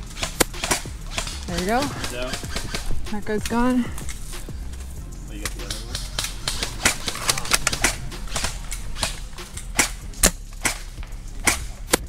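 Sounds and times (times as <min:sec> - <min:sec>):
airsoft guns firing: 0:00.0 - 0:04.3, 0:05.5 - 0:12.0.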